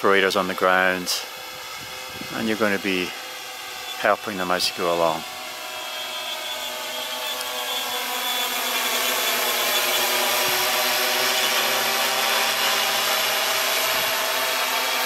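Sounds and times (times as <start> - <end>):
quadcopter propellers whirring: 0.0 - 15.0.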